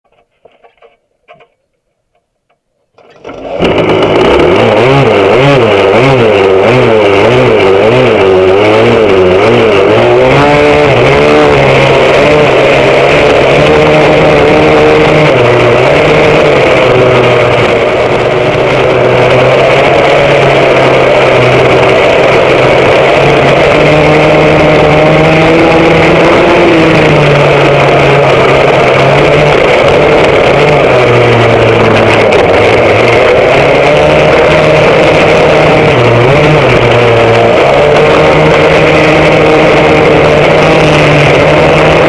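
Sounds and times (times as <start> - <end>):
second kart engine: 0.1 - 42.0
kart engine running hard: 3.0 - 42.0.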